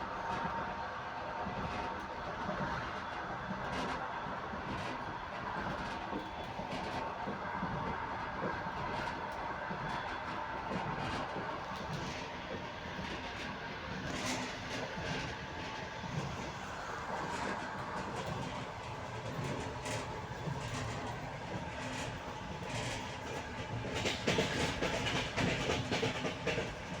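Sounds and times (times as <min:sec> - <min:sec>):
train wheels clattering on rails: 0:01.5 - 0:27.0.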